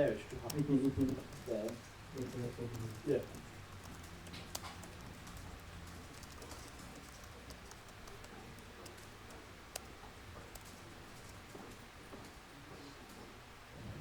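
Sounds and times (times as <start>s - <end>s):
computer keyboard typing: 0.0s - 11.8s
steady low hum: 0.0s - 14.0s.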